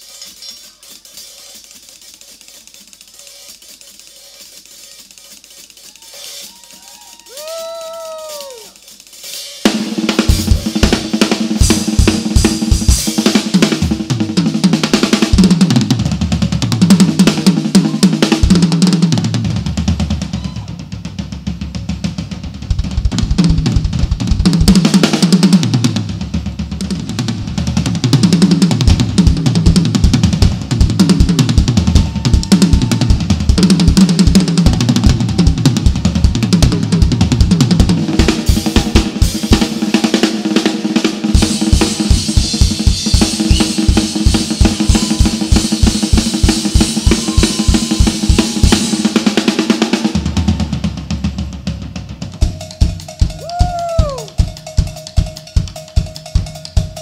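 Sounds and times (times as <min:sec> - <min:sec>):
drum kit played fast: 0:00.0 - 0:57.0.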